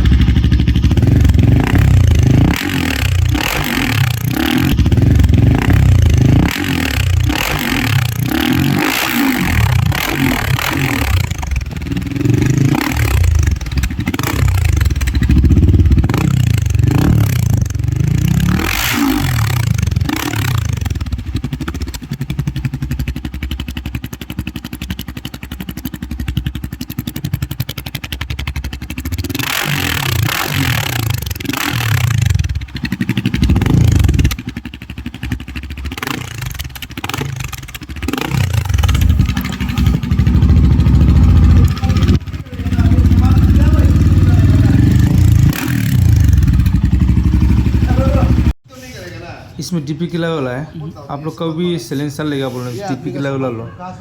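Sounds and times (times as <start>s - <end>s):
motorcycle engine revving and idling: 0.0s - 48.6s.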